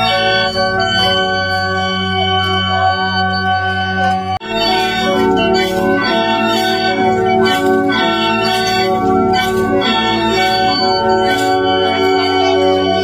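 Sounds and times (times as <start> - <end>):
bamboo mouth organs playing chords: 0.0 - 13.0.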